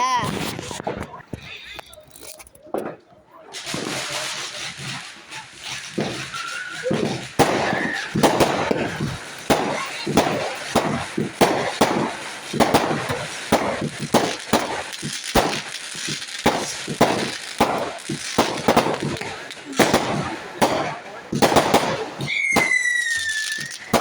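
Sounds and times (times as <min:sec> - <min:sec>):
fireworks bangs and cracks: 0:00.0 - 0:24.0.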